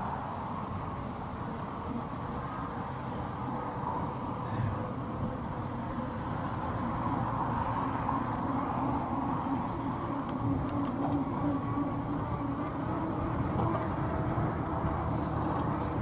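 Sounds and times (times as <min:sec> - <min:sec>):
bike tyres rolling on pavement: 0:00.0 - 0:16.0.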